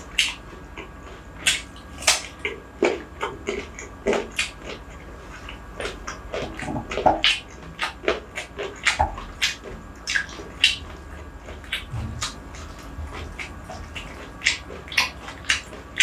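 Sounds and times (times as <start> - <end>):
wet chewing and lip smacks: 0.0 - 16.0.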